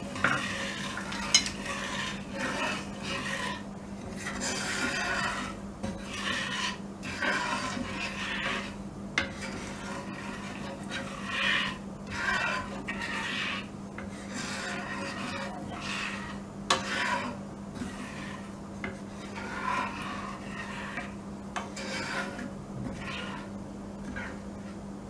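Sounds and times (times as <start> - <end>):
wooden spatula scraping a pan: 0.0 - 24.9.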